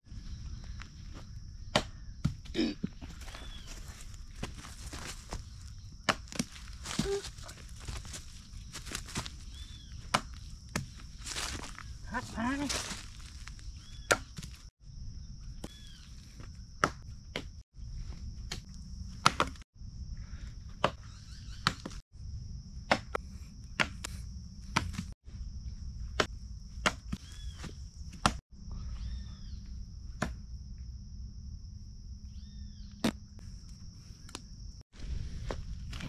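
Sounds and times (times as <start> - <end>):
insect drone: 0.0 - 36.0.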